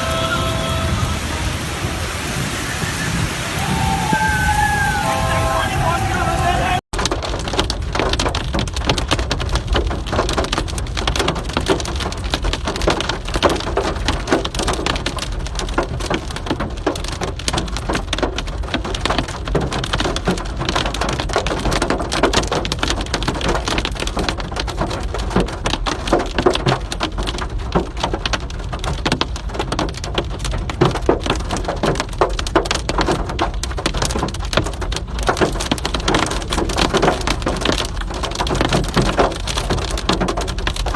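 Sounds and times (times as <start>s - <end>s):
hail and rain pelting: 0.0s - 40.9s.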